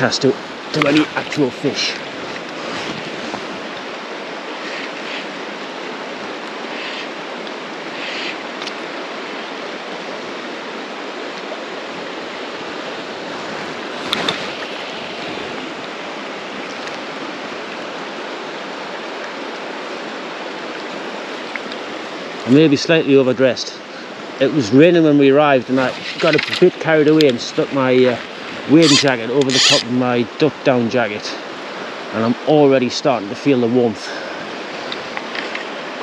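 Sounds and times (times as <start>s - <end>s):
river rushing over stones: 0.0s - 36.0s.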